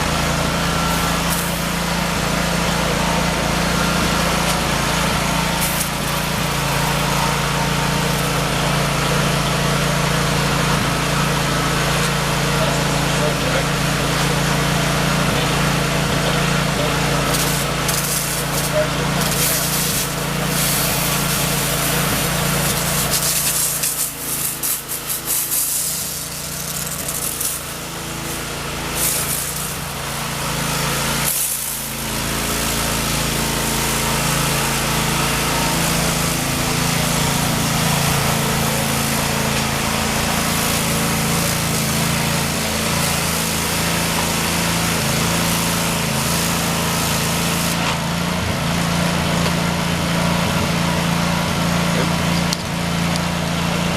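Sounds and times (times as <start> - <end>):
small engine running: 0.0 - 53.9
high-pressure spray hissing: 0.1 - 10.1, 13.9 - 47.9.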